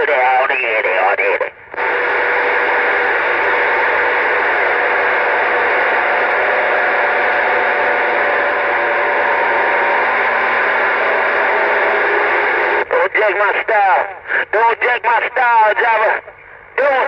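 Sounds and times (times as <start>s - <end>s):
faint steady tones: 0.0s - 17.0s
radio static hiss: 0.0s - 17.0s.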